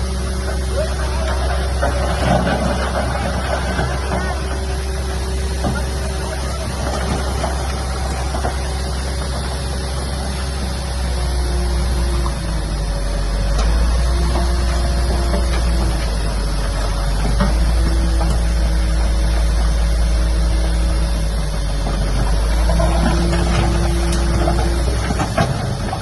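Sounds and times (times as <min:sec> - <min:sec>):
diesel machinery engine rumble: 0:00.0 - 0:26.0.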